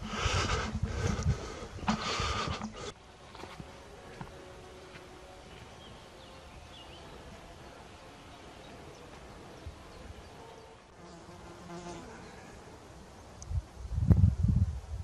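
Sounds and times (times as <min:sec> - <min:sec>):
flies and bees buzzing: 0:00.0 - 0:13.8.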